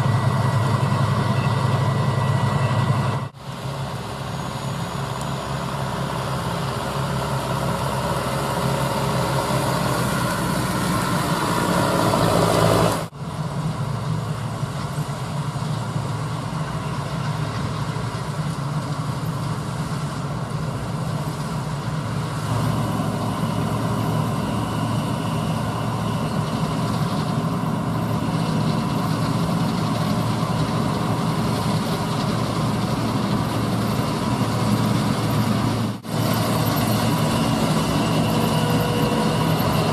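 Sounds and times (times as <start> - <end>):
diesel engines of harvest machinery: 0.0 - 39.9.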